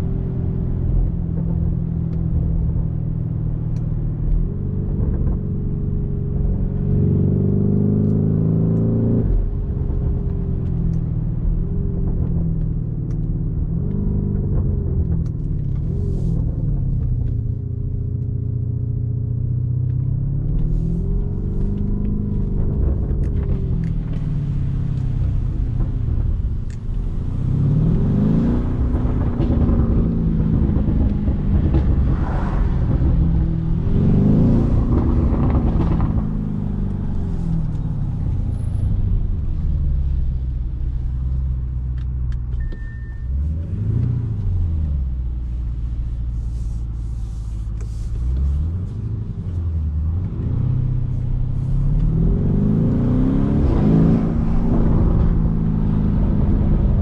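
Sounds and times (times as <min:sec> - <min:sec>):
car engine accelerating hard: 0:00.0 - 0:42.6, 0:46.5 - 0:57.0.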